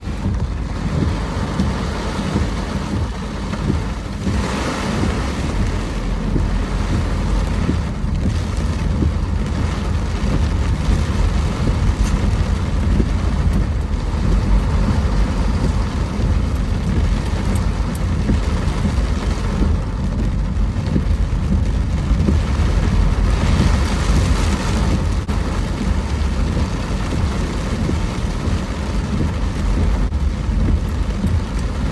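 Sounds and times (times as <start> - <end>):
rain hiss: 0.0 - 31.9
vehicle rumble: 0.0 - 31.9
wind buffeting microphone: 0.0 - 31.9.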